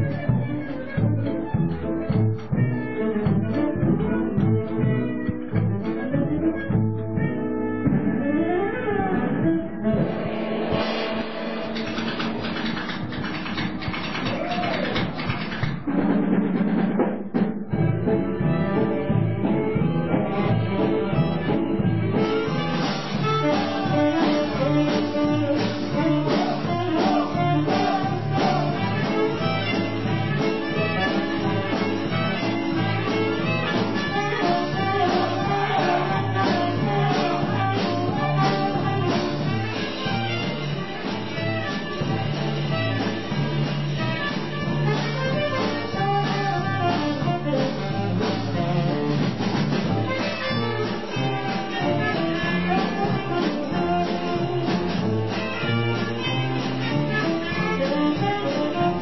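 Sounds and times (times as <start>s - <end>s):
small jazz band playing: 0.0s - 59.0s.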